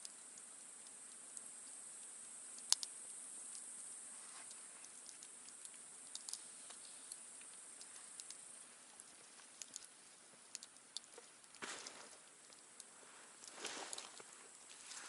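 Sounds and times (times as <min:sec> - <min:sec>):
campfire crackling: 0:00.0 - 0:15.0
faint high hiss: 0:00.0 - 0:15.0.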